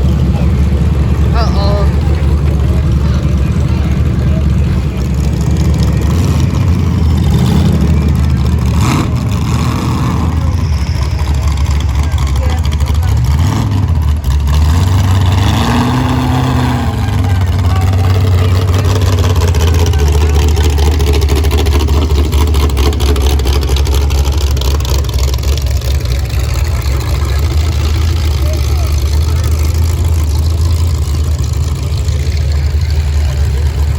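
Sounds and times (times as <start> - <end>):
car engines revving loudly: 0.0 - 33.9.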